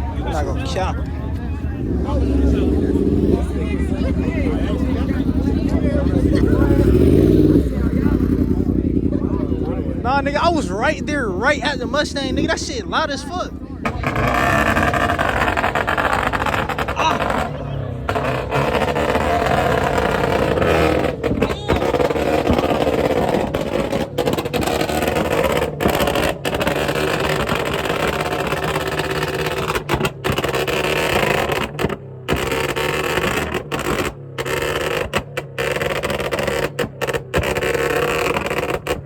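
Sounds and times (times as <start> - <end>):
car engine and exhaust droning: 0.0 - 39.0.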